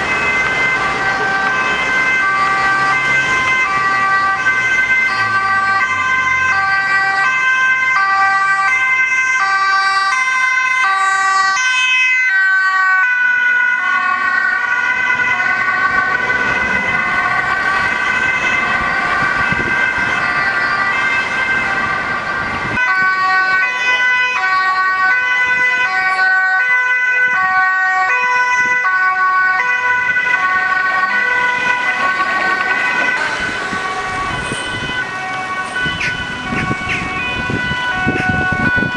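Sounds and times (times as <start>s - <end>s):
ambulance two-tone siren: 0.0s - 38.9s
traffic noise: 0.0s - 38.9s.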